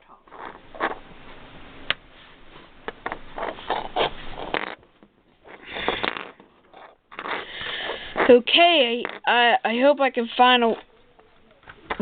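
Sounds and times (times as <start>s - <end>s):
rustling and scraping handling: 0.3s - 12.0s.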